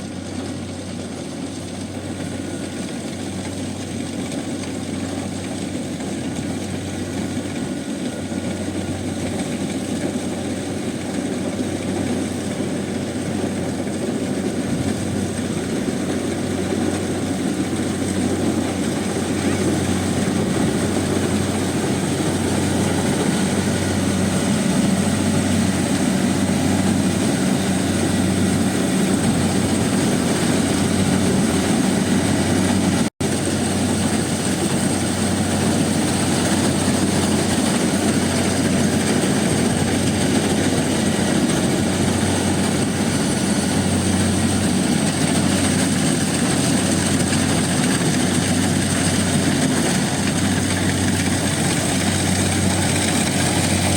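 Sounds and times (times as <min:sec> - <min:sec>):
harvester machinery running: 0:00.0 - 0:53.9.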